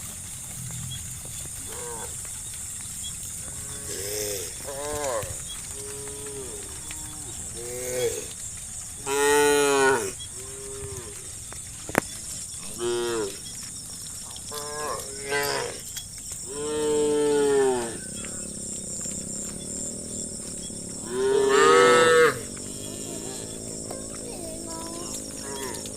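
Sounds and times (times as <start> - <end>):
cows mooing: 0.7 - 2.3, 3.1 - 11.6, 12.5 - 13.7, 14.3 - 25.9.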